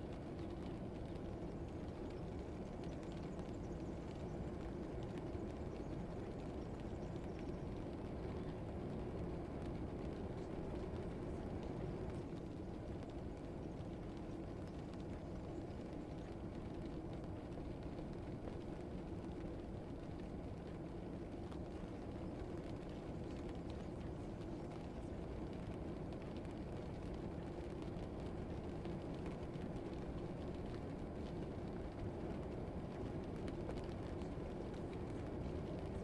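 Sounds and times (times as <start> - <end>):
faint even hum: 0.0 - 36.0.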